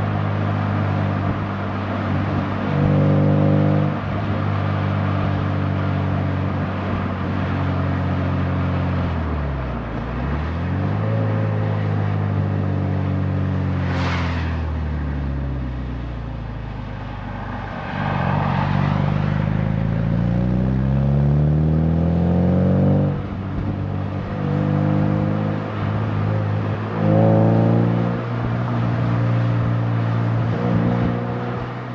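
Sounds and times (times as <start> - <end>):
car engine revving: 0.0 - 16.0, 16.7 - 31.9
rush of tyre noise: 0.0 - 31.9.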